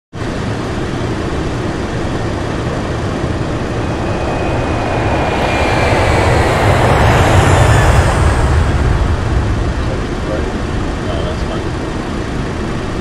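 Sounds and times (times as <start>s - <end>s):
jet engine and airflow rush: 0.1s - 13.0s
faint high whine: 0.3s - 13.0s.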